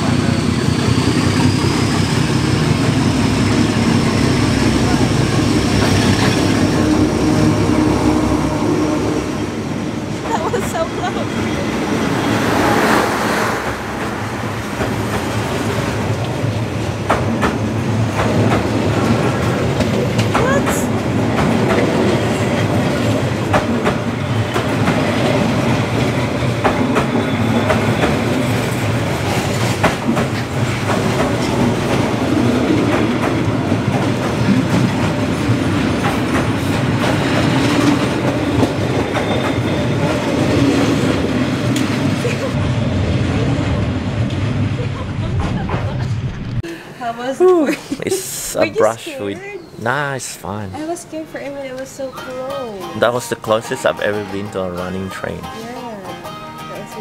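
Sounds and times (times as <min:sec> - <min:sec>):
train wheels rumbling on rails: 0:00.0 - 0:46.7.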